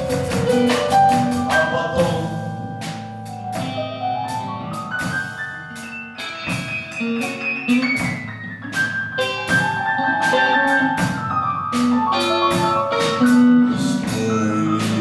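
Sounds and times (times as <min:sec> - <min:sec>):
small band playing instrumental: 0:00.0 - 0:15.0.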